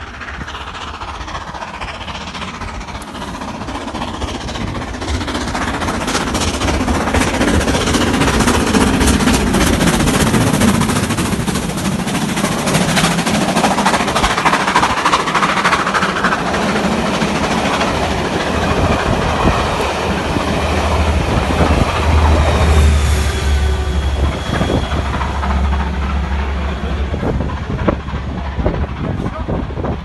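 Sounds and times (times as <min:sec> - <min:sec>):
coaches rumbling on rails: 0:00.0 - 0:30.0
steam locomotive exhaust beats: 0:00.0 - 0:30.0.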